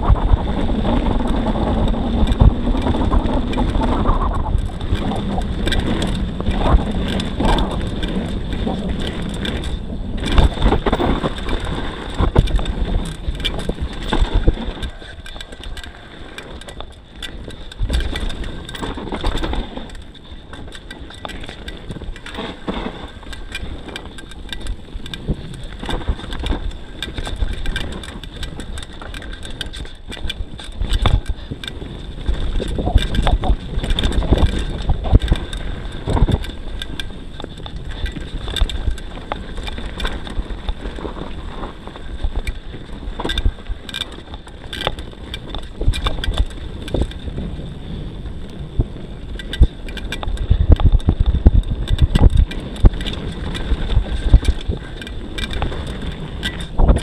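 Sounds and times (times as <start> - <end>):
bike rattling and knocking: 0.0 - 57.0
tyres rumbling on dirt trail: 0.0 - 57.0
wind rushing over microphone: 0.0 - 57.0.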